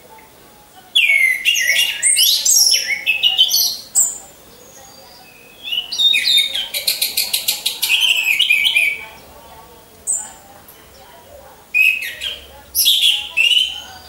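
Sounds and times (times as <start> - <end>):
thrush singing whistled notes: 0.0 - 9.4, 11.7 - 14.0.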